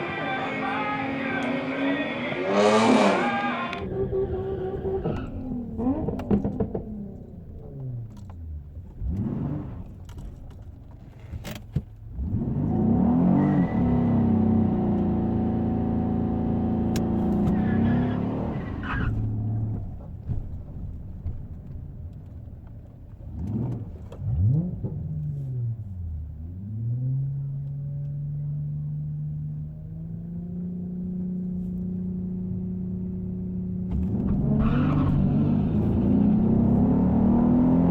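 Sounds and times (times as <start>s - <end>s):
car engines revving: 0.0s - 21.4s, 22.3s - 37.9s.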